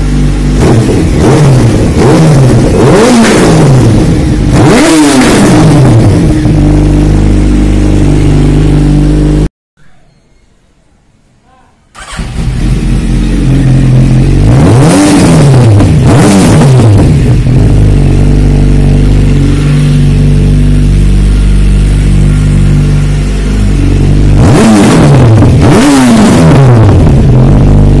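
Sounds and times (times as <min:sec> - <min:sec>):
motorcycle engine idling and revving: 0:00.0 - 0:09.5, 0:11.9 - 0:28.0.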